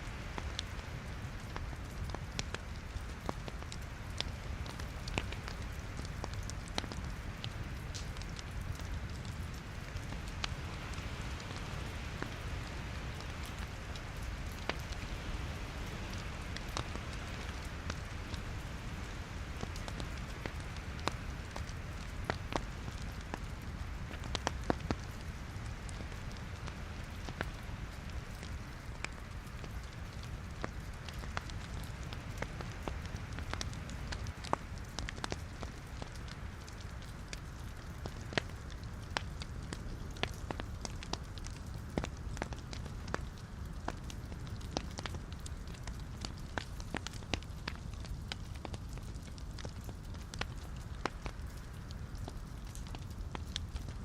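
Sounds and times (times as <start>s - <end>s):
fire crackles and pops: 0.0s - 54.0s
wood logs burning: 0.0s - 54.0s.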